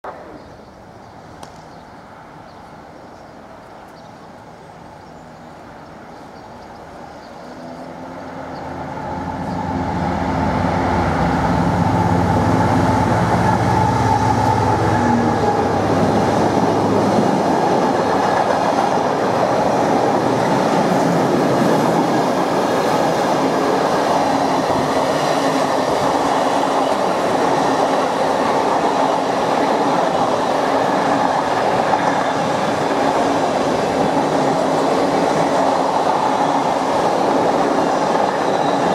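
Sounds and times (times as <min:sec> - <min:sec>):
diesel locomotive engine: 0:04.3 - 0:38.9.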